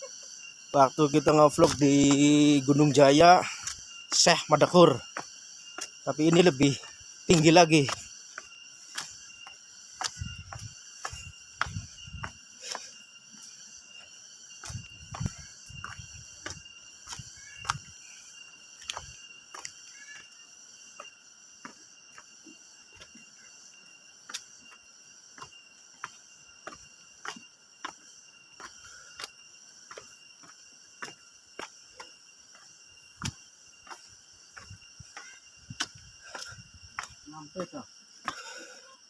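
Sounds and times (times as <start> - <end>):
insect chorus: 0.0 - 39.0.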